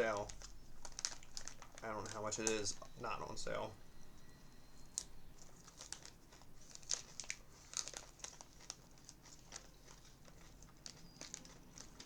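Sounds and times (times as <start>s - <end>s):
faint fan hum: 0.0s - 12.0s
plastic bag crinkling: 0.0s - 12.0s.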